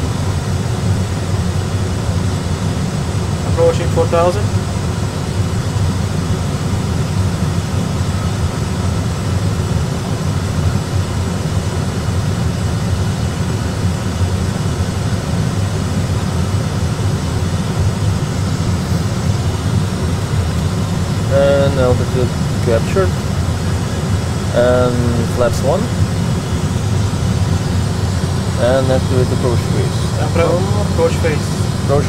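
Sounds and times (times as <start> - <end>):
cockpit engine and airflow rumble: 0.0 - 32.0.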